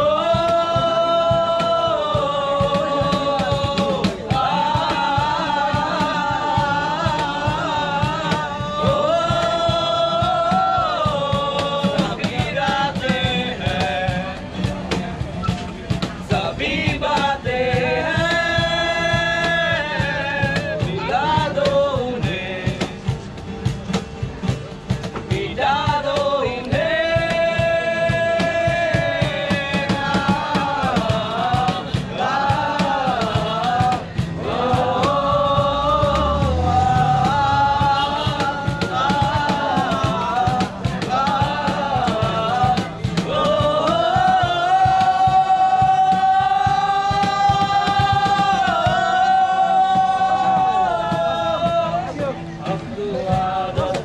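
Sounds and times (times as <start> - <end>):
instrumental accompaniment with steady beat: 0.0 - 54.0.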